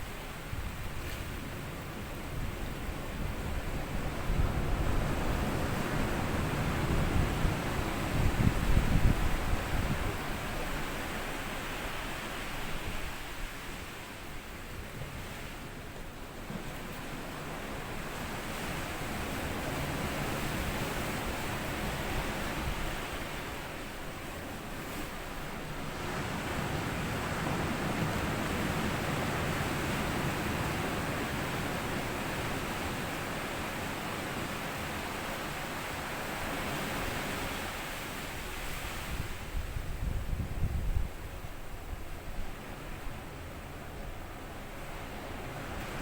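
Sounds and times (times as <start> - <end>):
sea waves washing on sand beach: 0.0 - 46.0.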